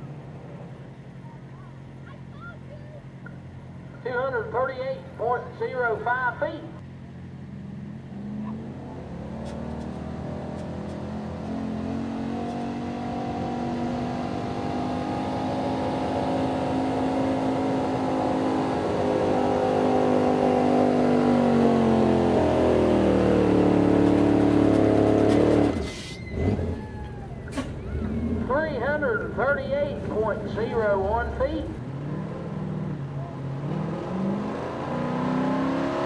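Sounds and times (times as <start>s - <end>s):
truck engine at full throttle: 6.8s - 36.0s.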